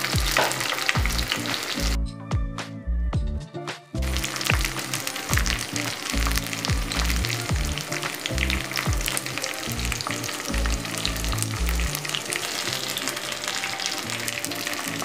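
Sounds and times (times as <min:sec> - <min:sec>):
food frying in hot oil: 0:00.0 - 0:02.0, 0:04.0 - 0:15.0
music with deep bass and kick drum: 0:00.0 - 0:12.1.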